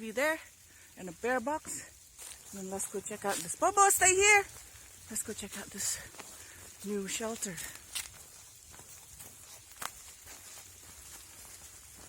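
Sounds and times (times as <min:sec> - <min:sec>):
footsteps on a trail: 0:00.0 - 0:12.0
steady light hiss: 0:00.0 - 0:12.0.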